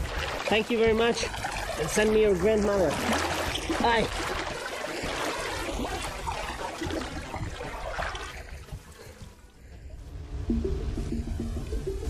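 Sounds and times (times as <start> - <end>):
water splashing against boat: 0.0 - 9.9.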